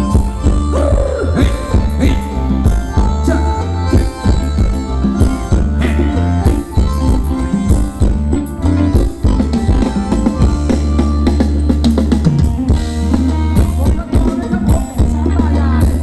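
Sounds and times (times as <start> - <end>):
drum kit beat: 0.0 - 16.0
heavy bass line: 0.0 - 16.0
live band dance music: 0.0 - 16.0.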